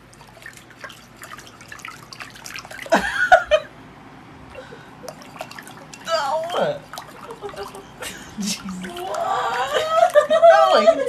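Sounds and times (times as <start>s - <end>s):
animal splashing in water bowl: 0.0s - 3.2s, 5.0s - 11.0s.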